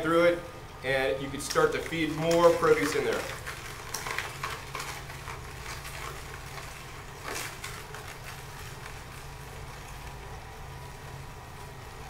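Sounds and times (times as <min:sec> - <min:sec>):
juicer motor hum: 0:00.5 - 0:12.0
produce crackling in juicer: 0:00.8 - 0:12.0.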